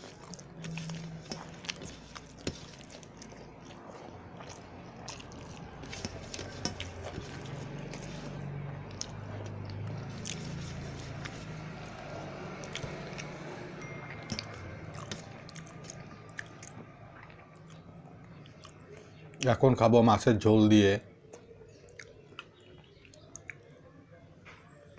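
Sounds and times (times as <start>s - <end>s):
person chewing food: 0.0s - 19.4s, 21.3s - 23.7s.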